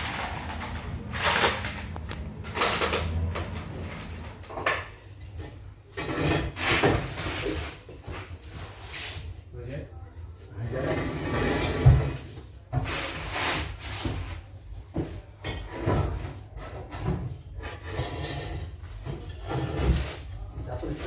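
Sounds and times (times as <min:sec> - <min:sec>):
knocking rubbing and scraping: 0:00.0 - 0:09.4, 0:10.5 - 0:21.0.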